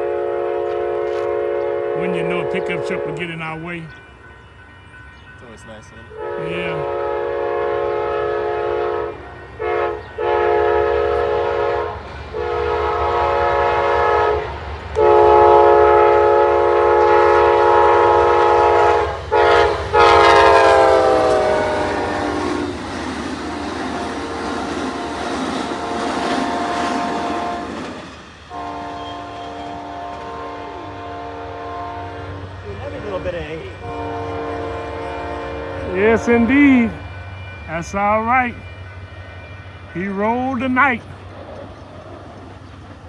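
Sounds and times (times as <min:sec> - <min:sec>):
train horn blasts: 0:00.0 - 0:03.6, 0:06.1 - 0:22.8, 0:24.3 - 0:27.8, 0:28.5 - 0:40.8
passing train cars clattering: 0:00.0 - 0:43.0.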